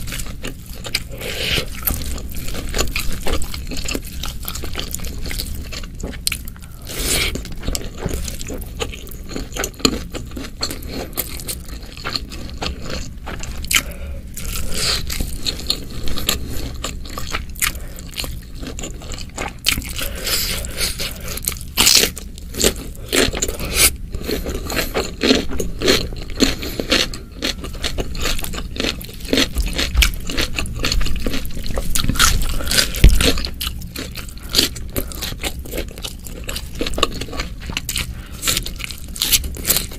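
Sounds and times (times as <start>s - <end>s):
wet chewing and mouth clicks: 0.0s - 39.9s.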